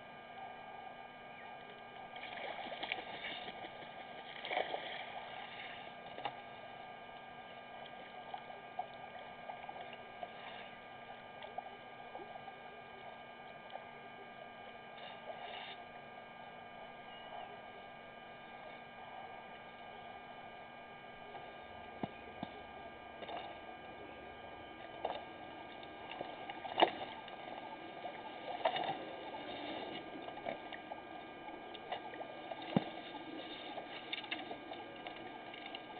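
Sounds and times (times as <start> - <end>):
electrical hum: 0.0 - 35.9.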